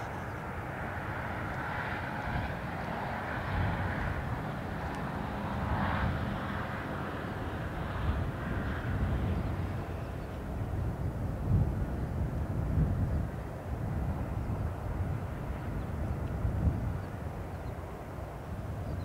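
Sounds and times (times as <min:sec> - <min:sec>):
distant locomotive rumble: 0:00.0 - 0:19.0.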